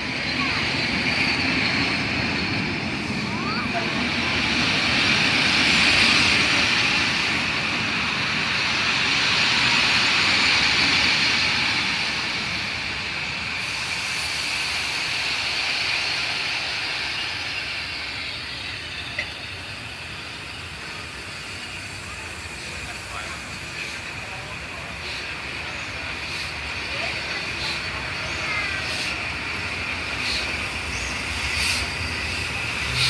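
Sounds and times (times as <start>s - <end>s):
train rushing past: 0.0s - 33.0s.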